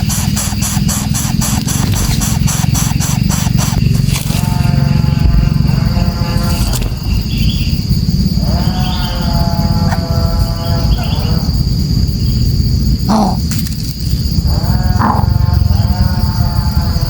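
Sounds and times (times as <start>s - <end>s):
bird calling with deep notes: 0.0s - 13.6s, 14.4s - 16.3s
cricket trill: 0.0s - 17.0s.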